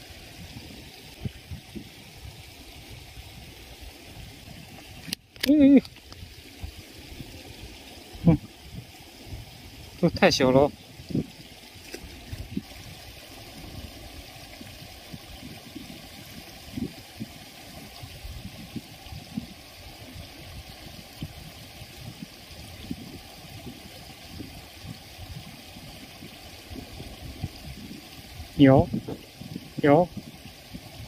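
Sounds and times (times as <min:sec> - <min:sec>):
water rushing through sluice: 0:00.0 - 0:31.0.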